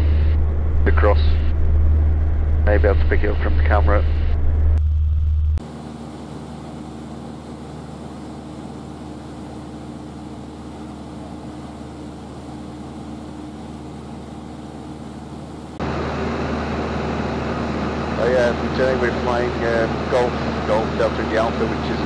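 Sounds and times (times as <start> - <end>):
plane engine droning in cabin: 0.0 - 22.0.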